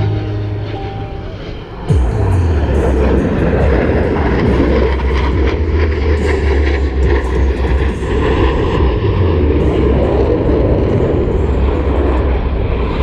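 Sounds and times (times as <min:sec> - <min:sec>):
jet roar overhead: 0:00.0 - 0:13.0.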